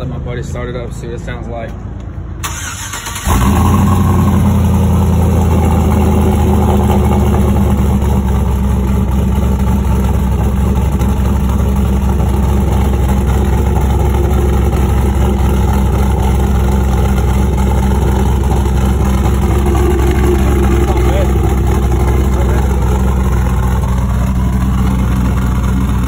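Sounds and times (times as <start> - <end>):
truck engine idling: 2.4 - 26.0.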